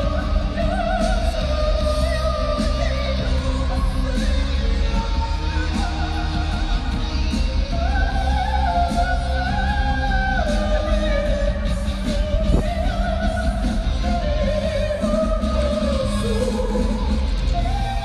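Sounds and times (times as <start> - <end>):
guitar: 0.0 - 18.0
heavy steady bass: 0.0 - 18.0
rock song with singing: 0.0 - 18.0.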